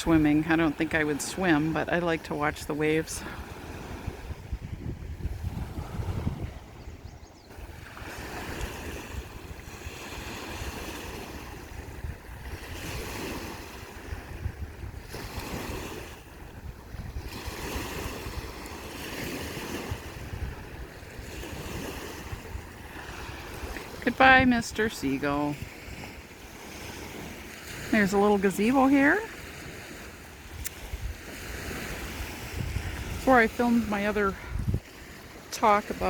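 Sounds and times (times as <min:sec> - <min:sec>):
wind rumble on microphone: 0:00.0 - 0:29.4, 0:30.4 - 0:36.0
waves washing onto sandy beach: 0:00.0 - 0:36.0.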